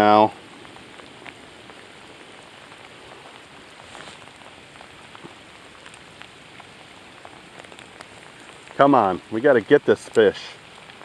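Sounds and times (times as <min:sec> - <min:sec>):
heavy rain on water: 0:00.0 - 0:11.0
rain drop ticks: 0:00.0 - 0:11.0.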